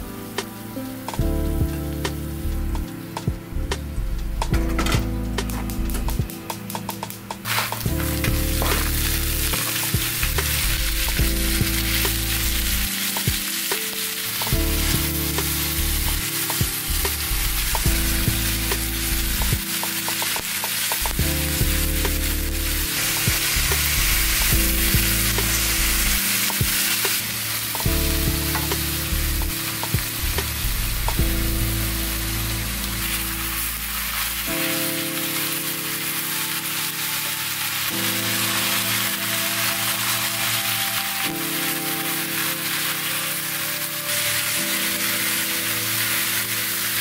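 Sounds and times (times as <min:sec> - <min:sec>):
meat sizzling in a skillet: 0:05.6 - 0:47.0.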